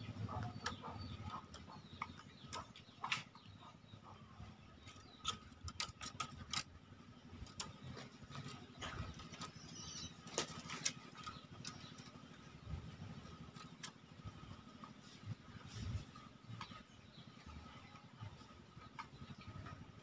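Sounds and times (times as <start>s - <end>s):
birds scuffling on dirt: 0.0s - 20.0s.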